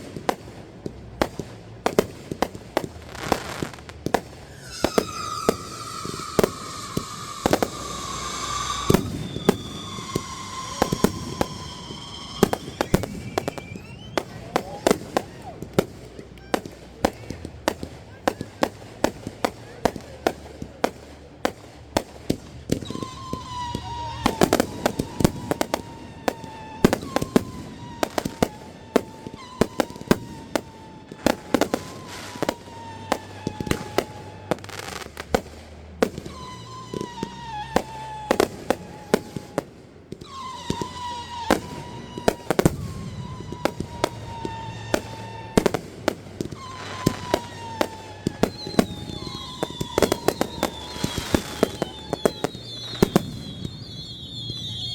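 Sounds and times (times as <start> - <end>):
firework whistles: 0.0 - 54.9
fireworks bangs and crackles: 0.0 - 54.9.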